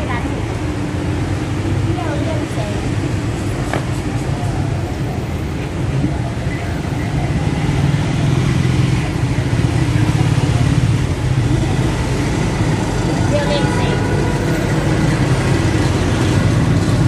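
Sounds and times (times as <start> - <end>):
cars passing on a city road: 0.0 - 17.0.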